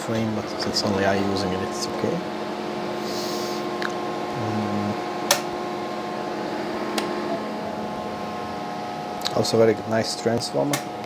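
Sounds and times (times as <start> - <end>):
battery charger cooling fan whir: 0.0 - 11.0.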